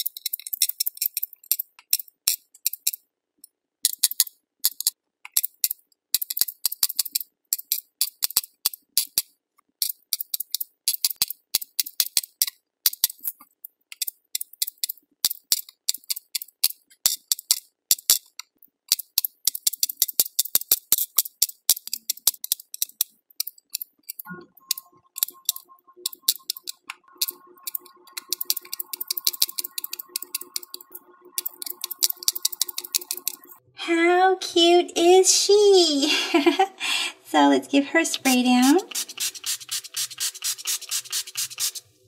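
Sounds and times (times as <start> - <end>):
bead dispenser pen clicking: 0.0 - 3.0, 3.9 - 9.2, 9.8 - 13.3, 13.9 - 33.5, 38.6 - 41.8.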